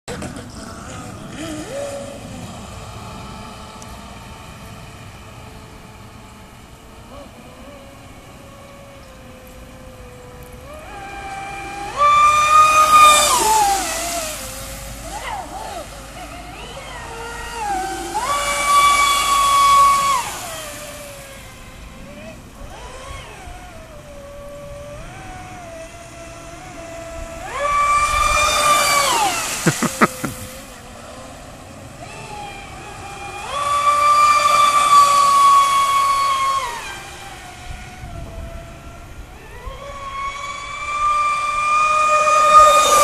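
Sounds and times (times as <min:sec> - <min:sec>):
electric motor whining: 0:00.2 - 0:43.0.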